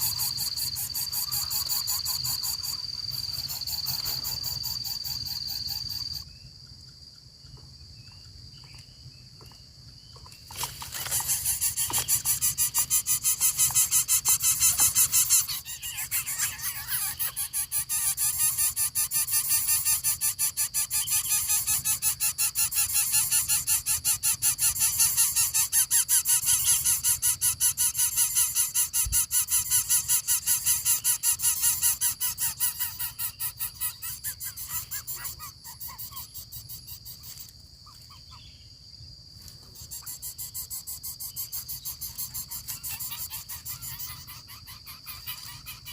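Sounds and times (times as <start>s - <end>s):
nestlings harsh pulsing calls: 0.0s - 6.3s, 10.4s - 38.6s, 39.6s - 45.9s
faint chirps: 0.0s - 45.9s.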